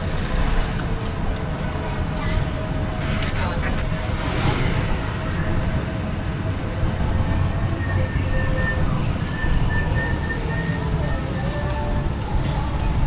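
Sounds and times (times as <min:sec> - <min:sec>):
vehicle interior rumble: 0:00.0 - 0:13.0.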